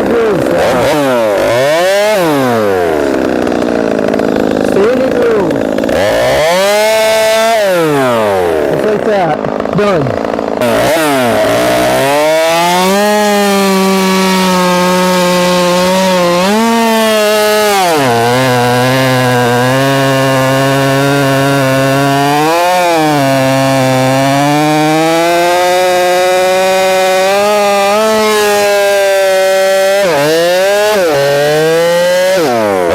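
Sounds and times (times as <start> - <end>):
chainsaw cutting log: 0.0 - 32.9.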